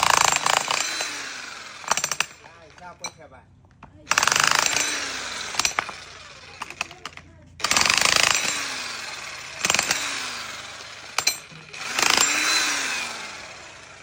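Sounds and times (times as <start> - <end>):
jackhammer hammering: 0.0 - 14.0.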